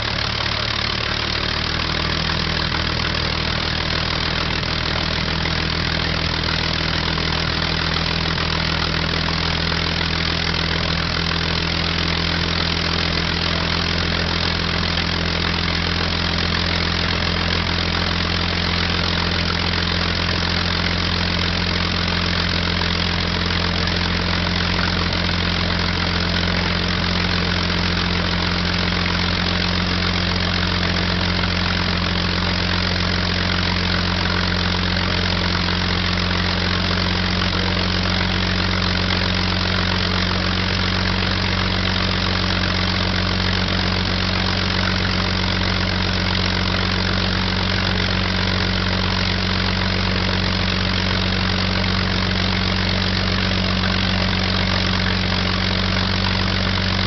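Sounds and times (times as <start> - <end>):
propeller aircraft engine idling: 0.0 - 57.0.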